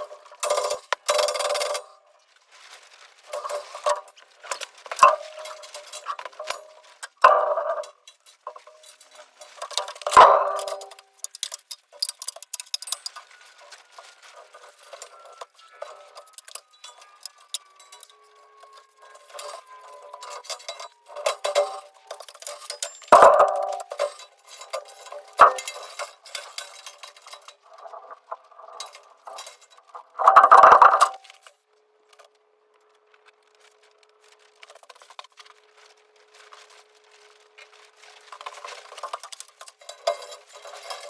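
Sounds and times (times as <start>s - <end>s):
metallic clinks and knocks: 0.0s - 2.0s, 3.3s - 31.5s, 38.2s - 41.0s.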